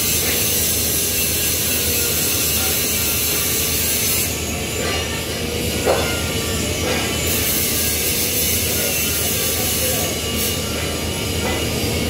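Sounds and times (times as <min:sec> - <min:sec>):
welding arc hiss: 0:00.0 - 0:12.0.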